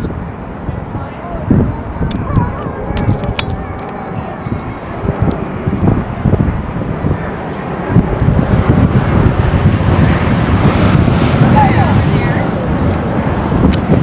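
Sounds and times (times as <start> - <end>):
airplane engine rumble: 0.0 - 14.0.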